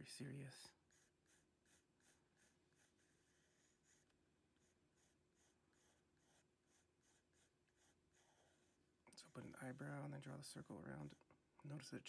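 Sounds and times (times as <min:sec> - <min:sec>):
pencil scratching on paper: 0:00.7 - 0:11.2.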